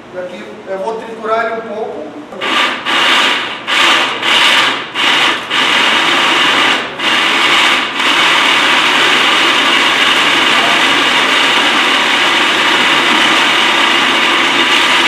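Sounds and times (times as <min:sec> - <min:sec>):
electric blender chopping: 0:02.4 - 0:15.0.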